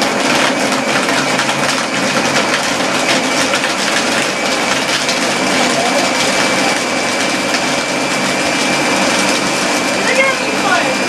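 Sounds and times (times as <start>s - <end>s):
blender running: 0.0s - 11.0s.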